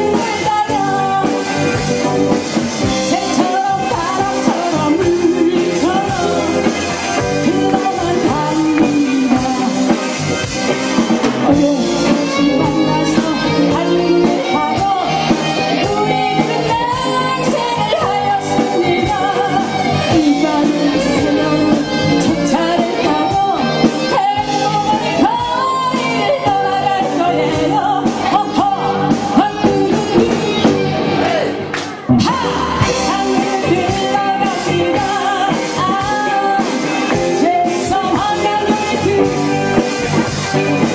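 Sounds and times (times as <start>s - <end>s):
woman singing: 0.0s - 31.5s, 32.1s - 40.9s
live rock band playing: 0.0s - 40.9s.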